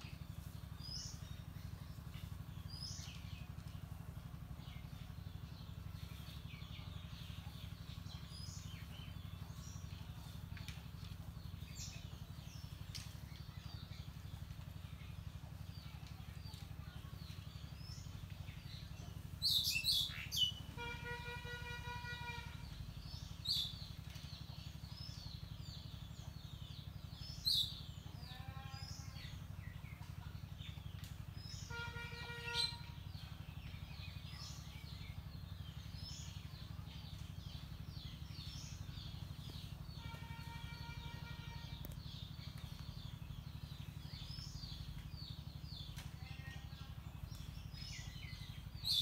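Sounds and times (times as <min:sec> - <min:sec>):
low steady hum: 0:00.0 - 0:49.0
small birds chirping: 0:00.0 - 0:49.0.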